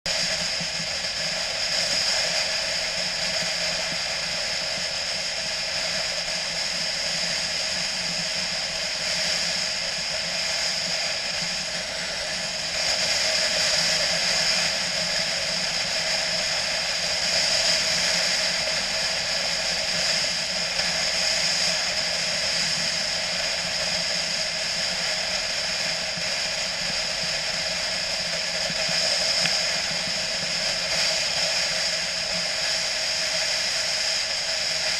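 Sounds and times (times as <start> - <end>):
motorcycle engine: 0.1 - 34.9.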